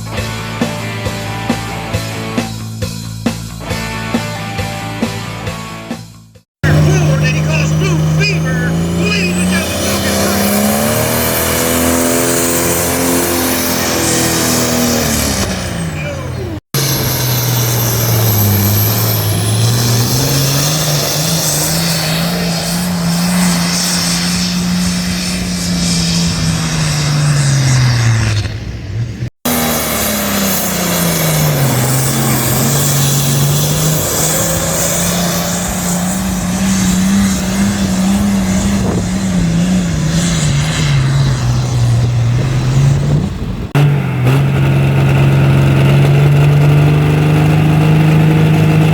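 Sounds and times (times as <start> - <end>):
vehicle engine revving: 0.0 - 48.9.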